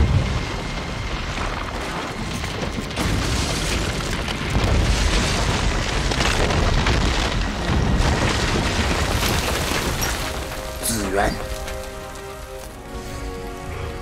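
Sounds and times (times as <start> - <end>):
deep rumbling booms and crashes: 0.0 - 11.7.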